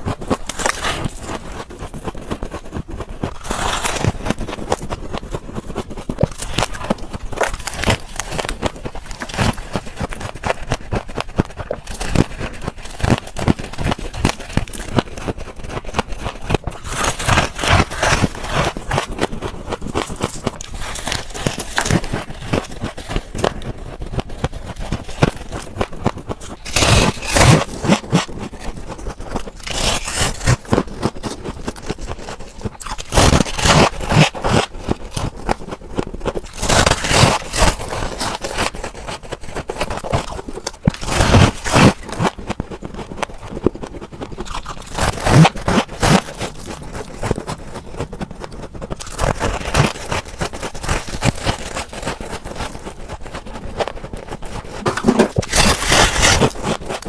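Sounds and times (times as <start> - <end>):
ice crackling and crunching: 0.0 - 57.0.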